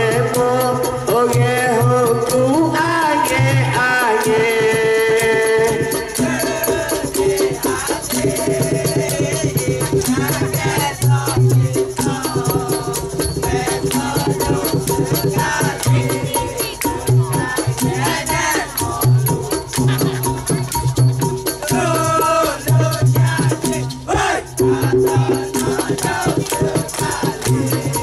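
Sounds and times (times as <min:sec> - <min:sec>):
group singing: 0:00.0 - 0:28.0
maracas rattling: 0:00.0 - 0:28.0
low drum beat: 0:03.3 - 0:28.0.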